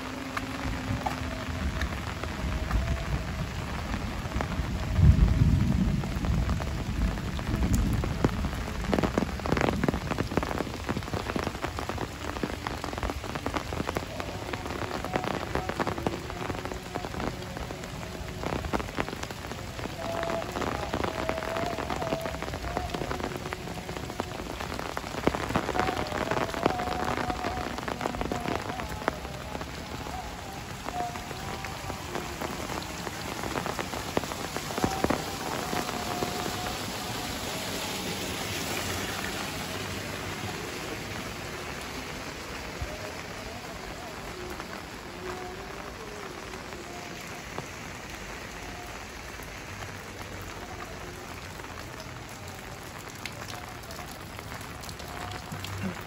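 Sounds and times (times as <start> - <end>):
heavy rain on leaves: 0.0 - 56.0.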